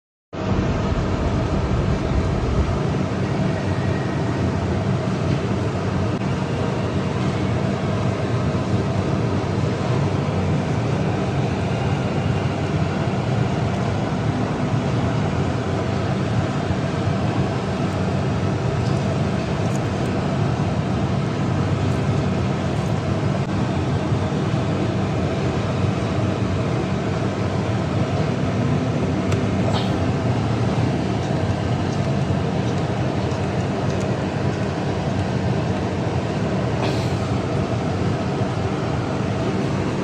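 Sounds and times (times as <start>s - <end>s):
diesel engine running: 0.4s - 40.0s.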